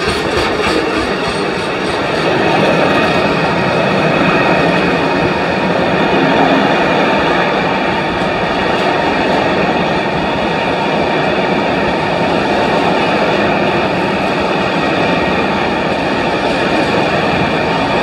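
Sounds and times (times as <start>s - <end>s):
train wagons rumbling and rattling: 0.0s - 18.0s.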